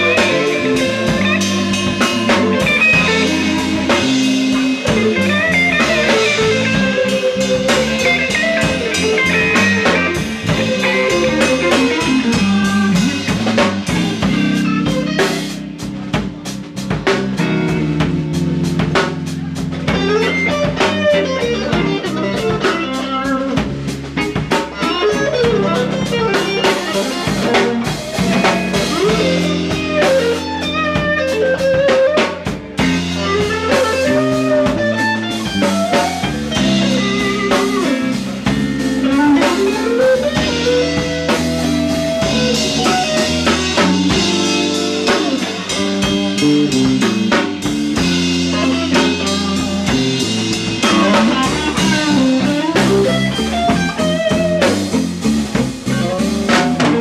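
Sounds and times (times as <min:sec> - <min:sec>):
drum kit beat: 0:00.0 - 0:57.0
electric guitar lead: 0:00.0 - 0:57.0.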